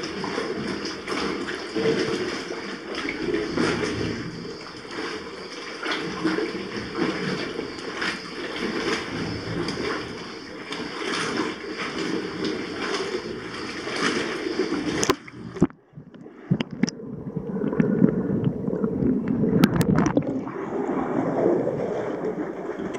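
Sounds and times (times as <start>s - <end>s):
muffled underwater gurgling: 0.0s - 22.9s
sea water sloshing and splashing: 0.0s - 22.9s.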